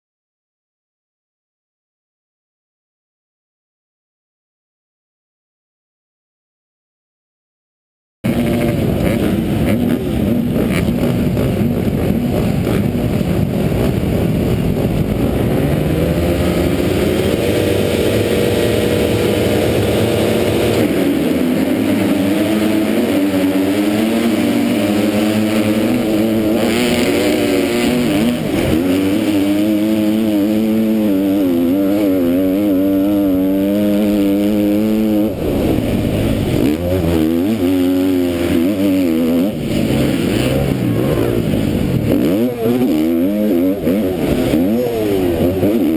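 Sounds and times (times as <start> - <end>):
motocross bike engine revving: 8.3 - 45.9
several motorbikes racing: 8.3 - 45.9.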